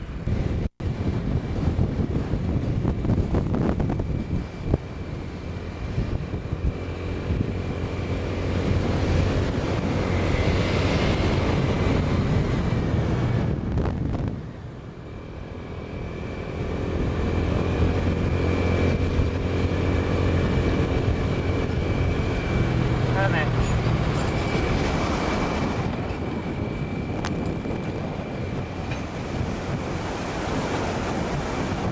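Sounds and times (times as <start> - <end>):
diesel locomotive engine running: 0.0 - 31.9.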